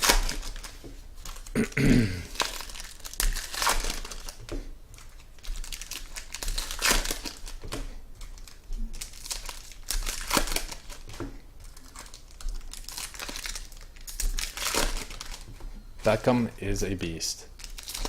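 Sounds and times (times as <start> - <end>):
card wrappers crinkling: 0.0 - 1.6, 2.3 - 16.4, 17.0 - 18.0.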